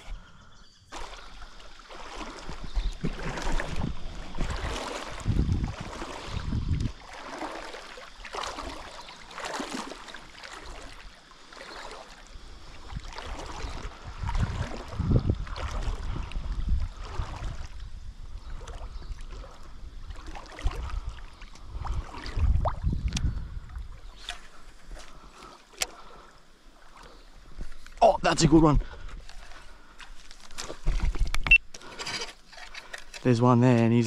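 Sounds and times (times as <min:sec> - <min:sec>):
water splashing and swishing: 0:00.9 - 0:34.0.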